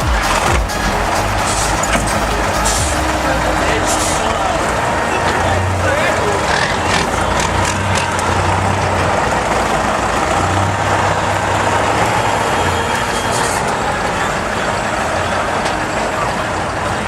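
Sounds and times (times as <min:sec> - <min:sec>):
heavy truck engine throbbing: 0:00.0 - 0:17.0
loud wash of noise: 0:00.0 - 0:17.0.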